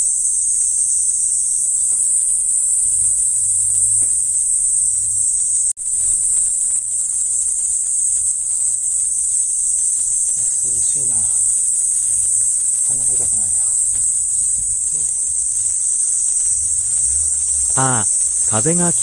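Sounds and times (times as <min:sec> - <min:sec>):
cicadas shrilling: 0:00.0 - 0:19.0.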